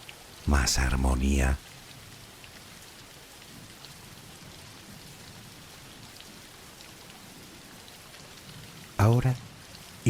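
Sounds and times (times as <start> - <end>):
rain patter: 0.0 - 10.0.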